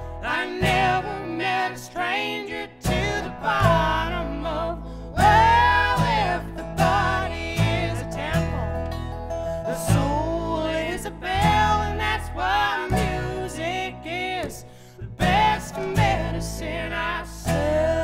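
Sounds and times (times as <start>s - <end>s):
acoustic guitar: 0.0s - 18.0s
resonator guitar: 0.0s - 18.0s
upright bass: 0.0s - 18.0s
woman singing: 0.2s - 8.7s, 9.7s - 18.0s.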